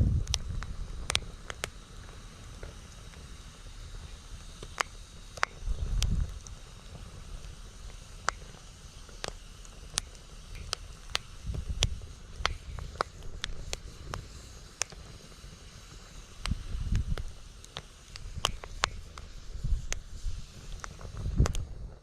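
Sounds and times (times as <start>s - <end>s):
wind rumble: 0.0s - 4.6s, 5.6s - 8.2s, 9.8s - 14.6s, 15.4s - 22.0s
burning wood popping: 0.0s - 22.0s
campfire crackling: 0.0s - 22.0s.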